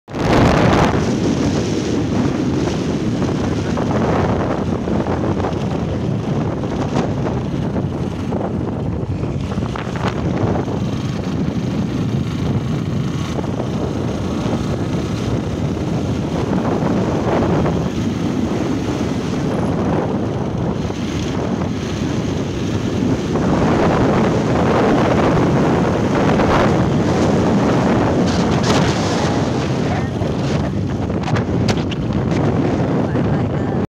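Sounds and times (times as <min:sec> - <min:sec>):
wind noise on microphone: 0:00.1 - 0:33.9.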